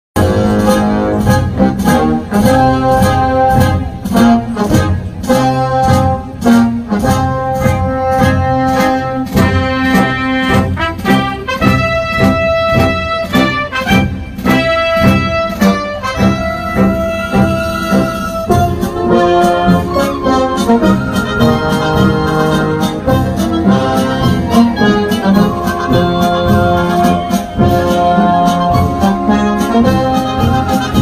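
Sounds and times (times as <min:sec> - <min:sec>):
brass band music: 0:00.2 - 0:31.0.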